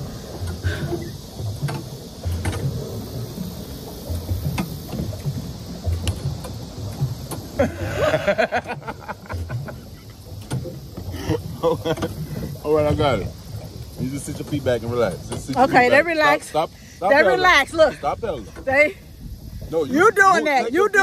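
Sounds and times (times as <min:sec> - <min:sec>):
paddle wheel churning water: 0:00.0 - 0:21.0.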